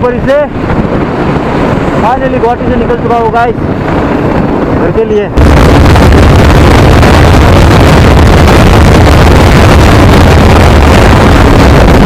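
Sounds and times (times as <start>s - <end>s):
motorcycle engine drone: 0.0s - 12.0s
wind rushing over microphone: 0.0s - 12.0s.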